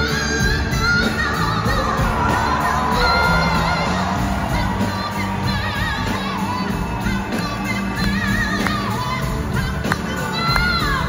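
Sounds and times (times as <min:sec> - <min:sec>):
blues rock band playing: 0:00.0 - 0:11.0
woman singing: 0:00.0 - 0:11.0.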